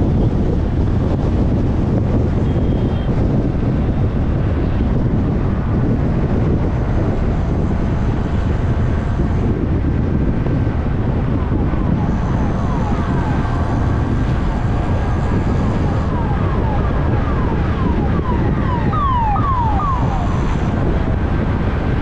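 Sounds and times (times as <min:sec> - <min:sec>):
road and traffic noise: 0:00.0 - 0:22.0
wind buffeting microphone: 0:00.0 - 0:22.0.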